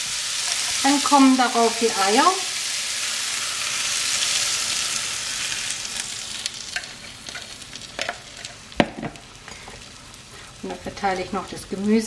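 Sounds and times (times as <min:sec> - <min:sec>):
egg sizzling in hot pan: 0:00.0 - 0:12.0.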